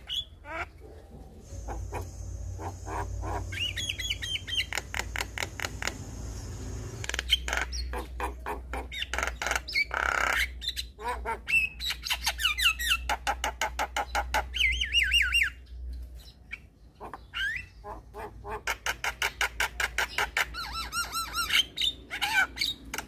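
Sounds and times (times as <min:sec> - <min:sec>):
myna bird song: 0:00.0 - 0:23.0.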